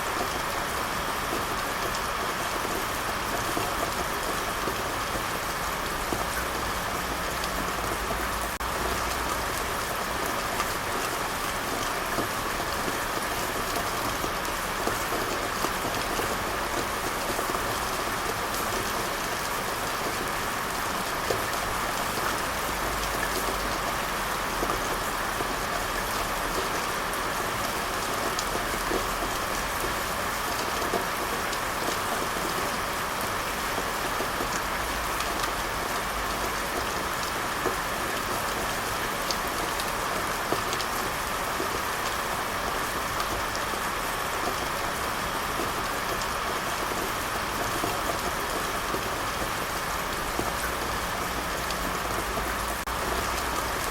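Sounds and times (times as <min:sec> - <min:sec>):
steady rainfall: 0:00.0 - 0:53.9.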